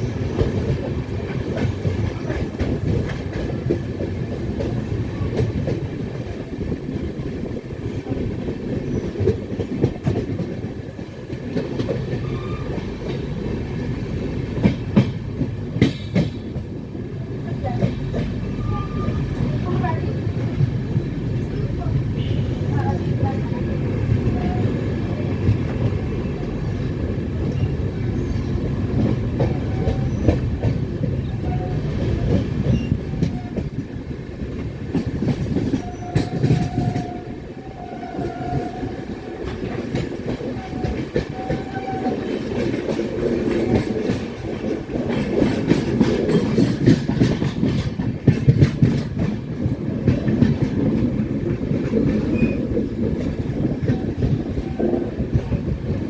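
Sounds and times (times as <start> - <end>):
train coach rumbling: 0.0 - 56.0
wheels clacking over rail joints: 0.0 - 56.0.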